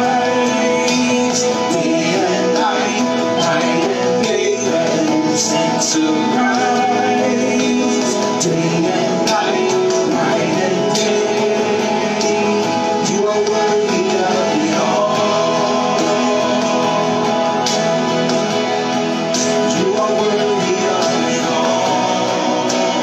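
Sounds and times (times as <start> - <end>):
guitar: 0.0 - 23.0
worship band music: 0.0 - 23.0.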